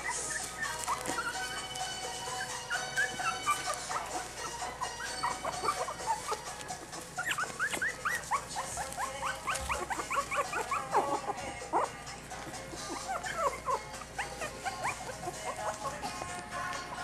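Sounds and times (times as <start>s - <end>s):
background music: 0.0s - 17.0s
puppies squeaking and whimpering: 0.0s - 17.0s.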